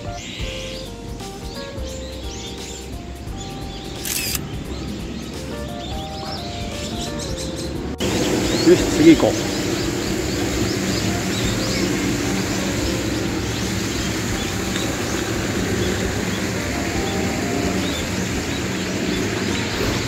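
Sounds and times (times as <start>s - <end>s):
bird chirps: 0.0s - 20.0s
low hum: 0.0s - 20.0s
rushing outdoor noise: 0.0s - 20.0s.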